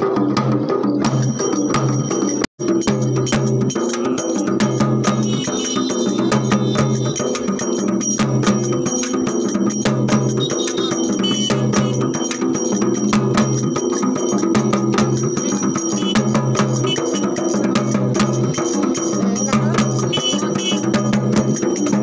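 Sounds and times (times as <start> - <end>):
hand-beaten barrel drums: 0.0 - 22.0
bells ringing: 0.9 - 22.0.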